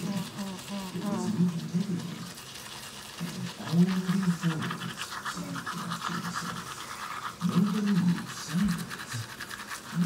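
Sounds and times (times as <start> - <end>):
toothbrush scrubbing through foam: 0.0 - 10.0.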